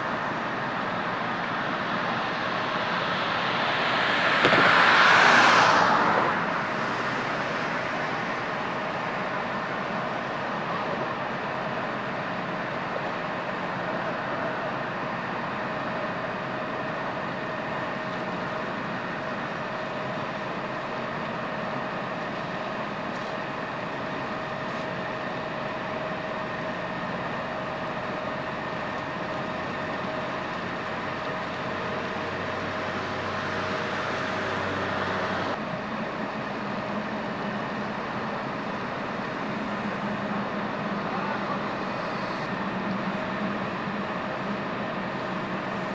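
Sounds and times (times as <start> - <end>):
fire engine pumps rumbling: 0.0 - 45.9.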